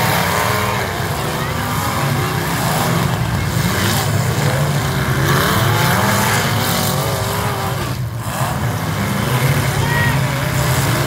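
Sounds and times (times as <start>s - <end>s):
stock car engines revving: 0.0s - 11.0s.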